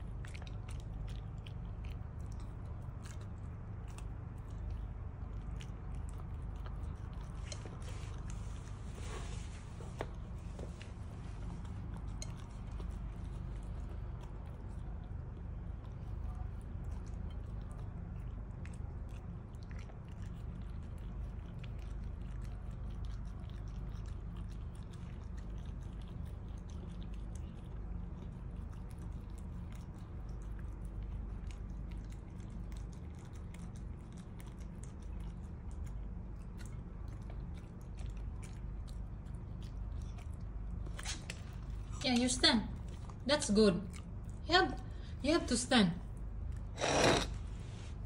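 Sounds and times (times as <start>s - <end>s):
dog chewing: 0.0s - 47.9s
low background hum: 0.0s - 48.0s.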